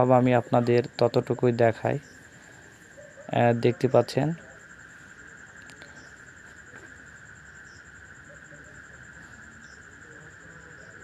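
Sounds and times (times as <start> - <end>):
insect trilling: 0.0 - 11.0.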